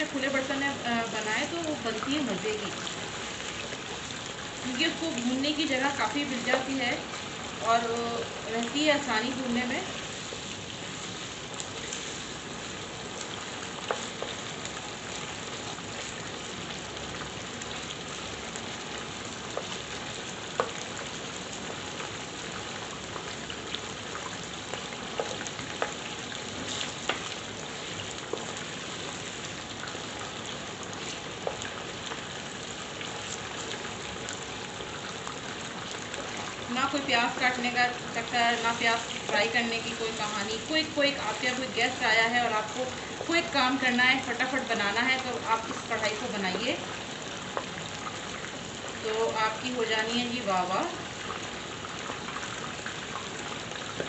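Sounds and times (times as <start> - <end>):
chicken frying in oil: 0.0 - 54.0.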